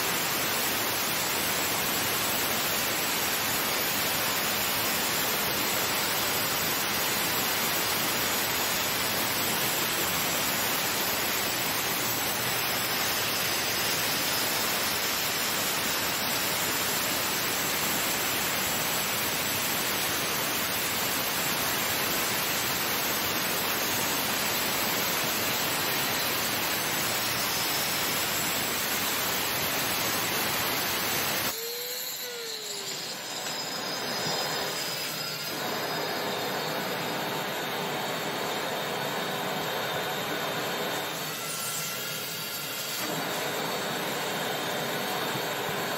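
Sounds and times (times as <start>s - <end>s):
vacuum running: 0.0s - 45.9s
angle grinder cutting concrete: 0.6s - 37.6s.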